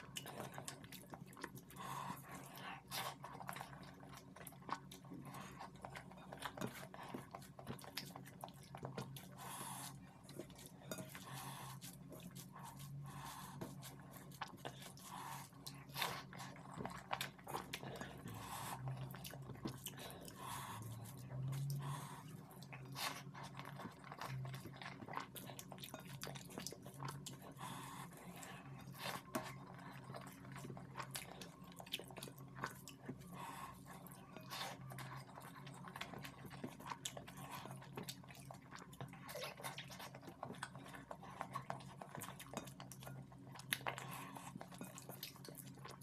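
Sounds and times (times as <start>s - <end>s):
chewing rice: 0.0s - 46.0s.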